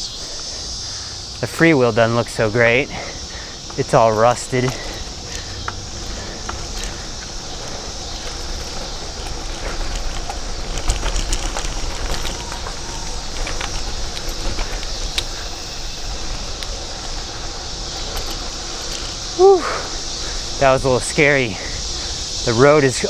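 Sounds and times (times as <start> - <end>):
wind and road rumble: 0.0 - 23.0
bicycle rattling and knocking: 1.8 - 23.0.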